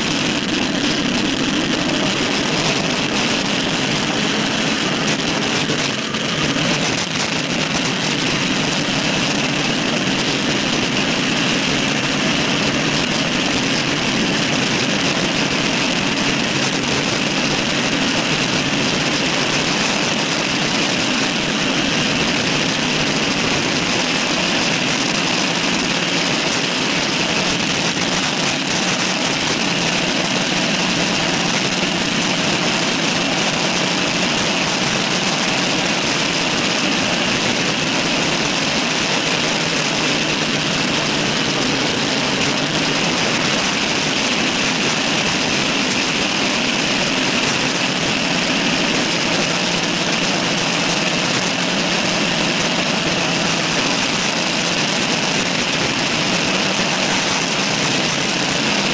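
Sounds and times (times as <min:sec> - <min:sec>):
bike tyre and road noise: 0:00.0 - 0:58.9
wind rush on microphone: 0:00.0 - 0:58.9.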